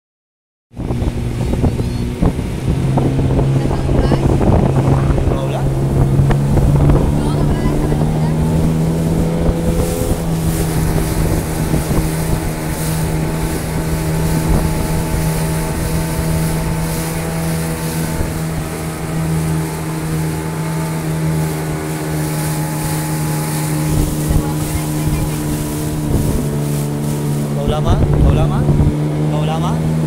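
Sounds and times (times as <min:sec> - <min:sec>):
jet boat engine running: 0:00.7 - 0:30.0
wind buffeting microphone: 0:00.7 - 0:30.0.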